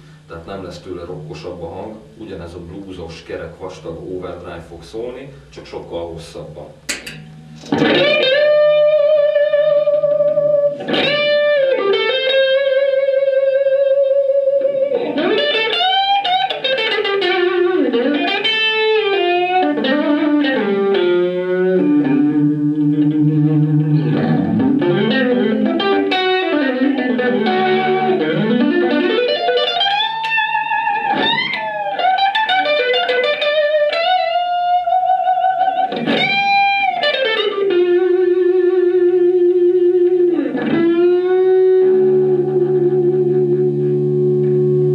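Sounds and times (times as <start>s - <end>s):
electric guitar with string bends: 0.0s - 44.9s.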